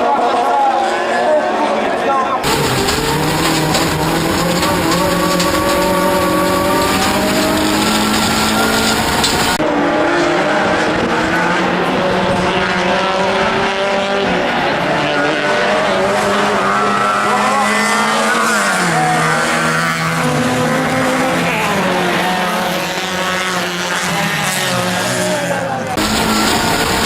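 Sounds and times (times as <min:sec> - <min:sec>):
racing car engine revving: 0:02.4 - 0:27.0.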